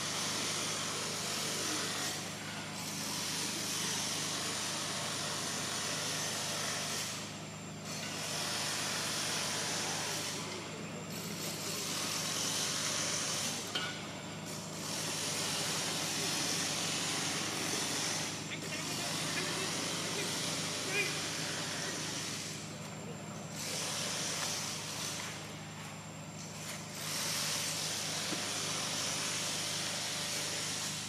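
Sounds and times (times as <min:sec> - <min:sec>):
insects droning: 0:00.1 - 0:31.0.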